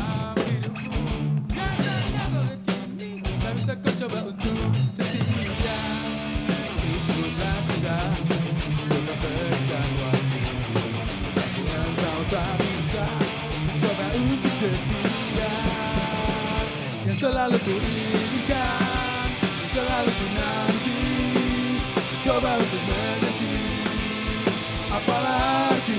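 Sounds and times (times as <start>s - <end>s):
bass guitar: 0.0s - 25.9s
electric guitar: 0.0s - 25.9s
drum beat: 1.6s - 25.9s.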